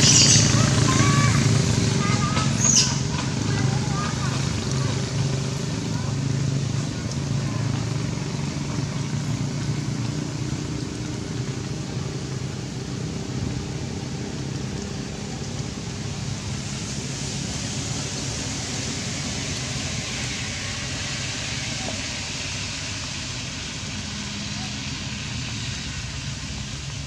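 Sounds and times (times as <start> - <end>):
constant hiss: 0.0 - 27.0.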